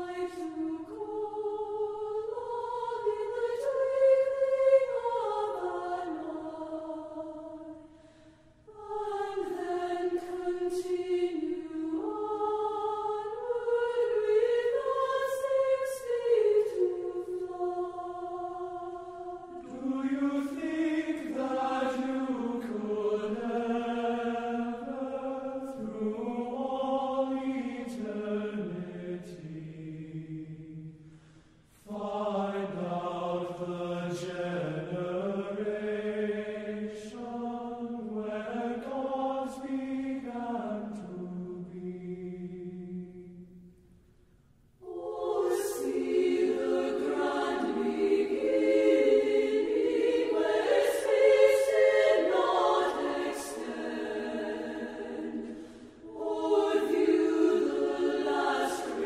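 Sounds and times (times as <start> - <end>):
voices singing slow chant: 0.0 - 43.9, 44.7 - 59.0.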